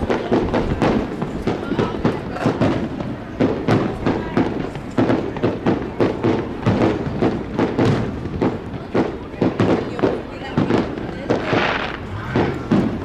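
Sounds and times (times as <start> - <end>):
fireworks bangs and booms: 0.0 - 13.0.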